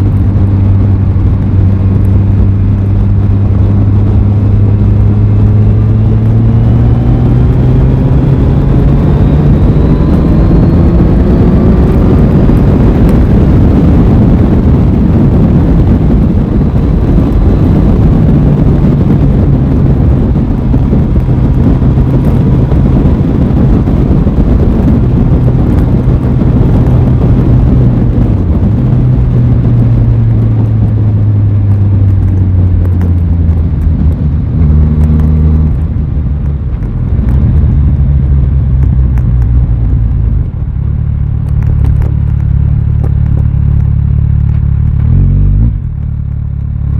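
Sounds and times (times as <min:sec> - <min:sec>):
motorcycle engine: 0:00.0 - 0:46.9
wind and road noise: 0:00.0 - 0:46.9.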